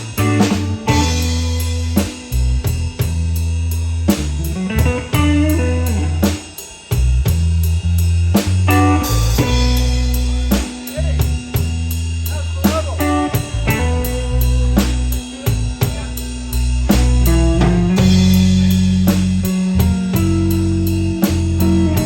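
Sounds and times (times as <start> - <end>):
blues band playing: 0.0 - 22.0.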